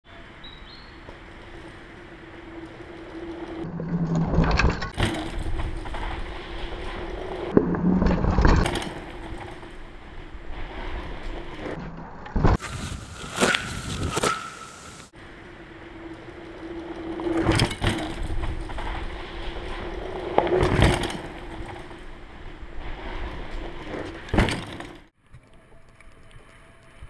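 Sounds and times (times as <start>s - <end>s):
bike tyres rolling over dirt: 0.4s - 26.6s.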